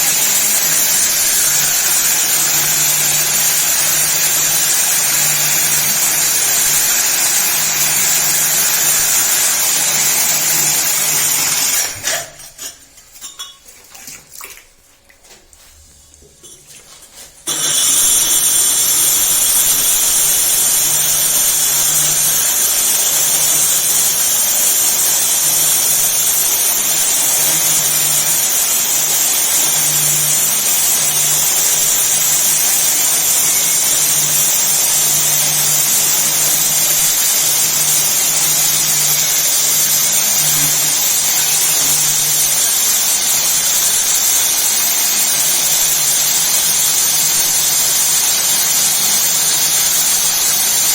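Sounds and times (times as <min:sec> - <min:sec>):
core drill cutting concrete: 0:00.0 - 0:12.5, 0:17.5 - 0:50.9.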